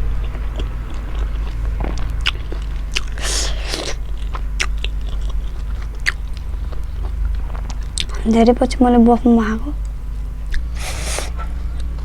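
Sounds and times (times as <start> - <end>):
chewing with mouth clicks: 0.0 - 8.9, 9.8 - 12.0
steady low hum: 0.0 - 12.0.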